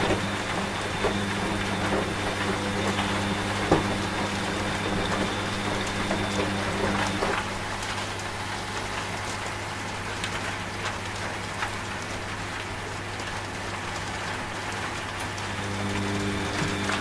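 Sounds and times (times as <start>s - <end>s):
steady rain falling: 0.0s - 17.0s
washing machine hum: 0.0s - 17.0s.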